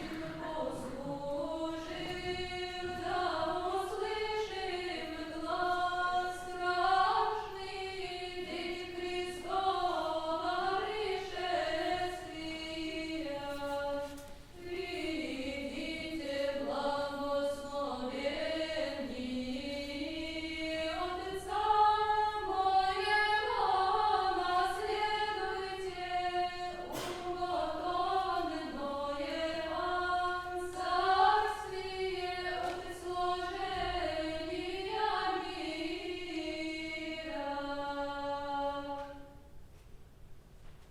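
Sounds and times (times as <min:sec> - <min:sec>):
choir singing in high voices: 0:00.0 - 0:39.5.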